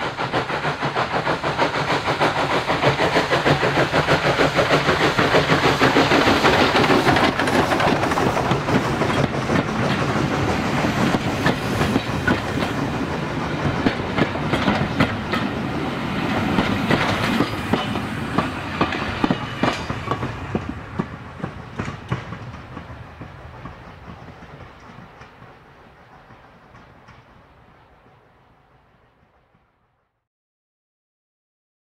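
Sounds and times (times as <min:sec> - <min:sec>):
train wheels clickety-clack: 0:00.0 - 0:28.2
steam locomotive exhaust beating: 0:00.0 - 0:29.6.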